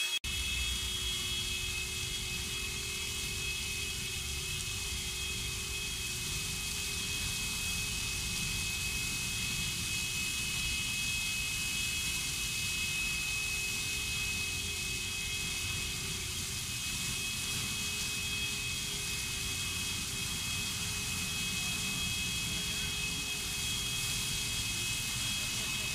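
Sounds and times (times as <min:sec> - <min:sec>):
faint high whine: 0:00.0 - 0:25.9.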